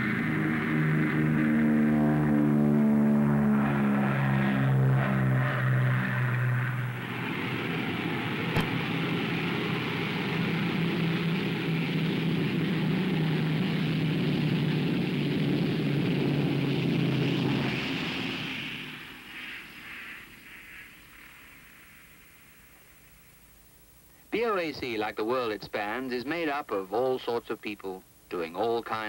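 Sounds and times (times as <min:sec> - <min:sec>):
propeller airliner engines droning: 0:00.0 - 0:23.3
turboprop engines running: 0:00.0 - 0:25.0.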